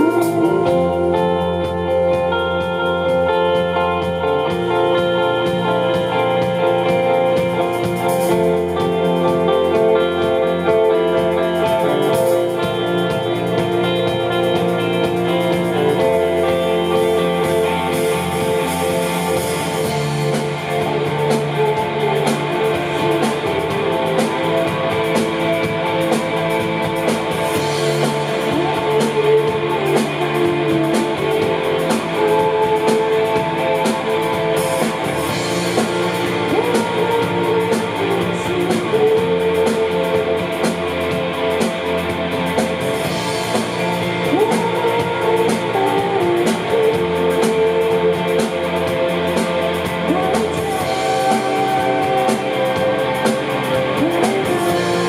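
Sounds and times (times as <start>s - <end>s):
electric guitars: 0.0s - 55.0s.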